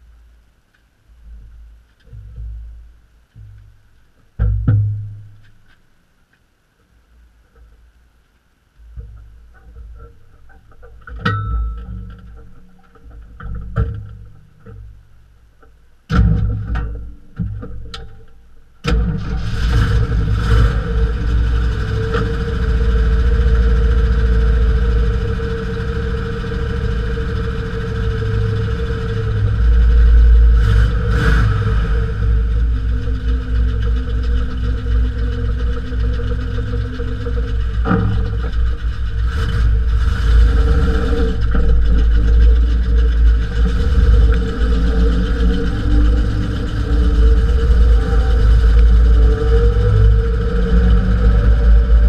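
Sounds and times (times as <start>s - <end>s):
engine low rumble: 0.0s - 52.0s.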